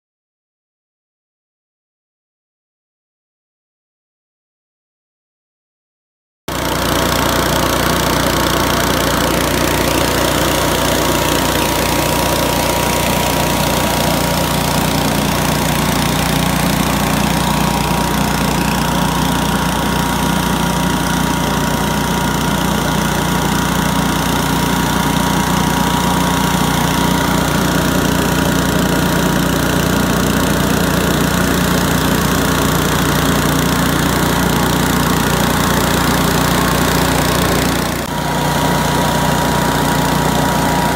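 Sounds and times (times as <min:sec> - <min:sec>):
leaf blower running: 0:06.5 - 0:40.9.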